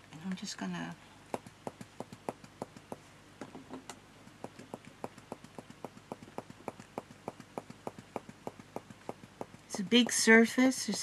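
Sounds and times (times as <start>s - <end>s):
tool tapping on paper: 1.3s - 11.0s.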